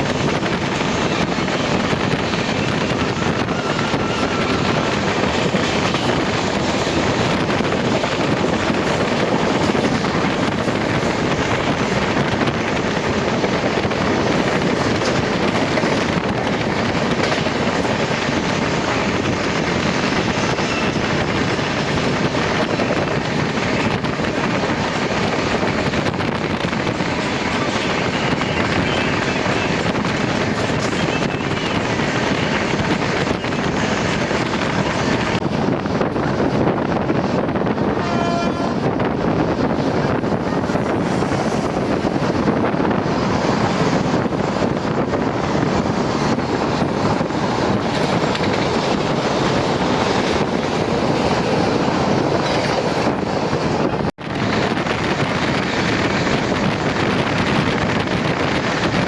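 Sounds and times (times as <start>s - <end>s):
train rumbling on tracks: 0.0s - 59.0s.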